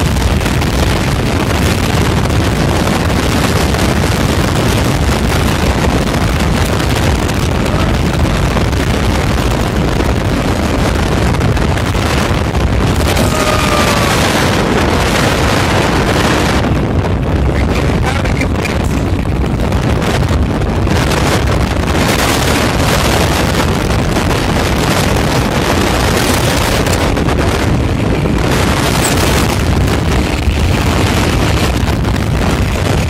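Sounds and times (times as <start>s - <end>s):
wind rush on microphone: 0.0s - 33.0s.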